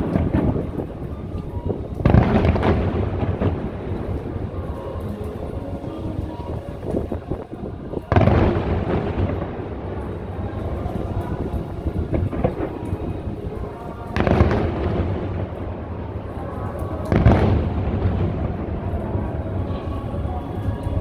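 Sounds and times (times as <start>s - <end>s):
faint music: 0.0s - 21.0s
fireworks bursting with deep booms: 0.0s - 21.0s
long rolling rumble: 0.0s - 21.0s.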